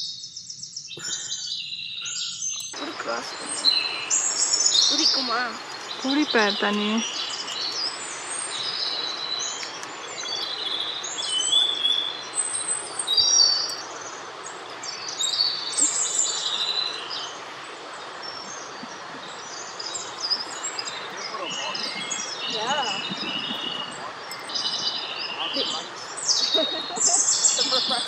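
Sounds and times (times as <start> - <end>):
small songbirds chirping: 0.0 - 28.0
mountain creek rushing: 2.1 - 28.0.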